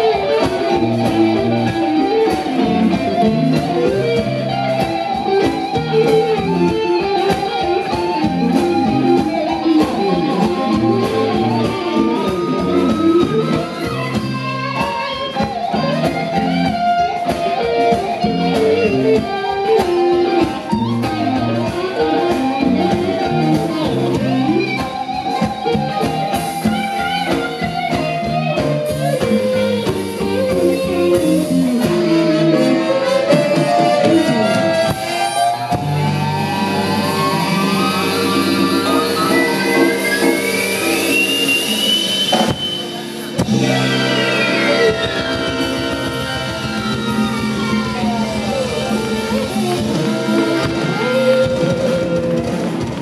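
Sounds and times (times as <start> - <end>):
blues-rock band playing: 0.0 - 53.0
electric guitar lead with bends: 0.0 - 53.0.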